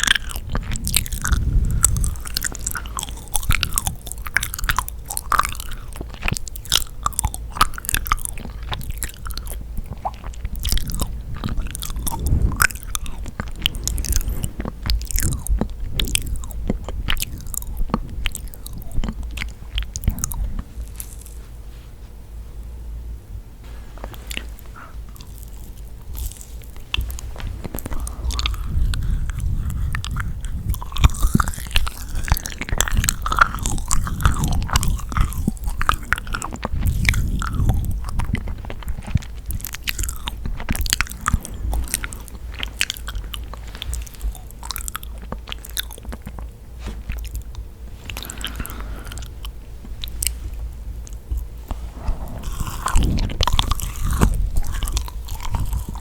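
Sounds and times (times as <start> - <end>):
small clicks and crunches: 0.0 - 21.6, 23.7 - 56.0
sticky chewing and biting: 0.0 - 21.6, 23.9 - 56.0.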